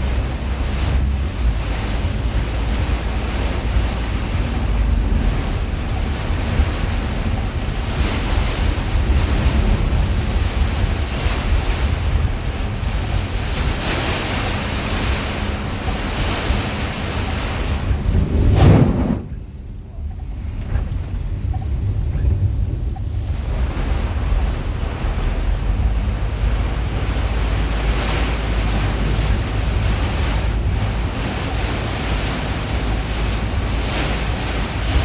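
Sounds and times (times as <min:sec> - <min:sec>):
heavy rain pouring: 0:00.0 - 0:19.6, 0:21.0 - 0:35.0
wind buffeting microphone: 0:00.0 - 0:35.0.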